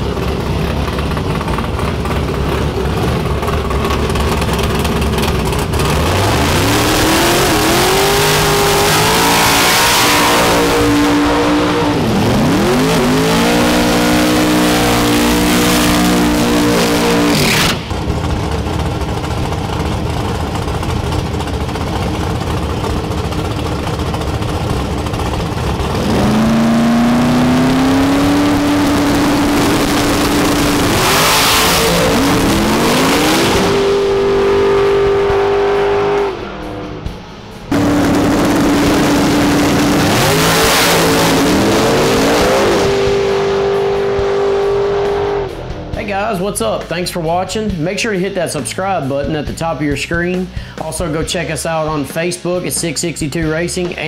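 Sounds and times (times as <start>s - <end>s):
drag racing engines revving: 0.0s - 54.0s.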